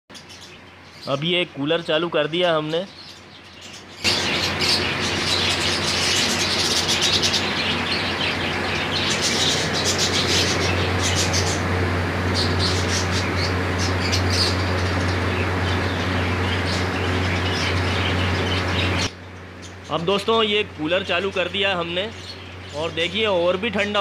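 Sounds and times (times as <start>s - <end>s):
air cooler whirring: 0.1s - 24.0s
budgerigars chirping and squawking: 0.1s - 24.0s.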